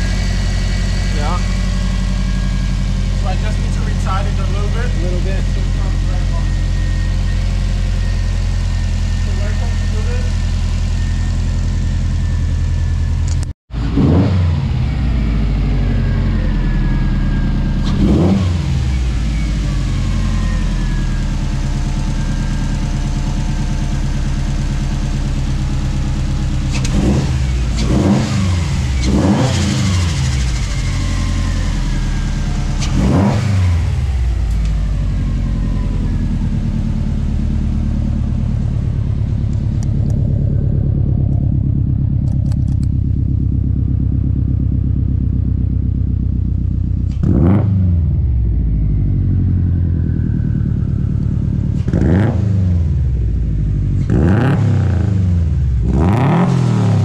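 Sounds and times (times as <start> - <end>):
car engine idling: 0.0 - 57.0
engine throttle blips: 0.0 - 57.0.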